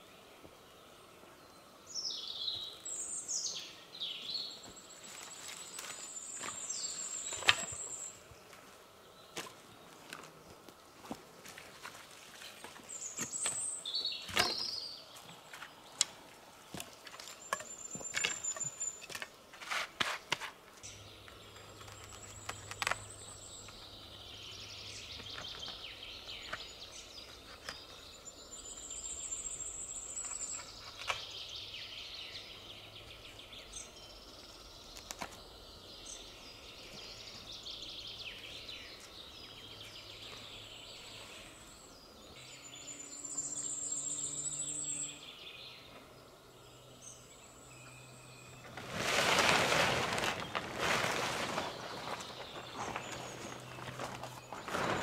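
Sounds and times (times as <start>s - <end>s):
birds singing: 0.0s - 11.2s, 12.4s - 19.5s, 20.1s - 55.0s.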